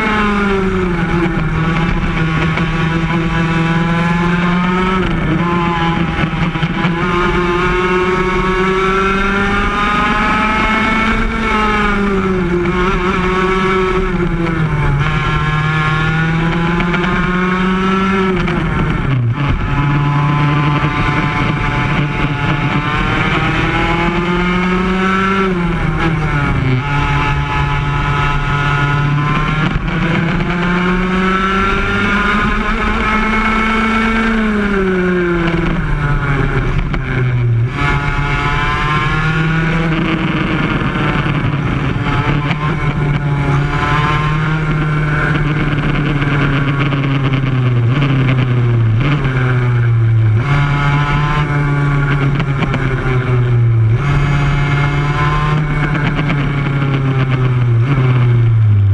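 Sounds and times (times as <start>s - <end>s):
kart engine revving: 0.0s - 58.9s.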